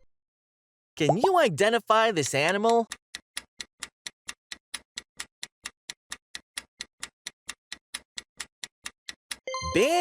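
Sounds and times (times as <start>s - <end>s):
clock ticking: 1.1s - 9.4s.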